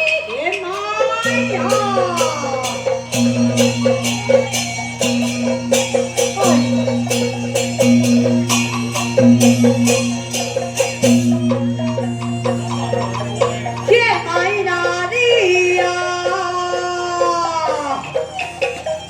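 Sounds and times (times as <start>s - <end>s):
sharp percussion strikes: 0.0s - 19.0s
sustained low notes: 1.2s - 19.0s.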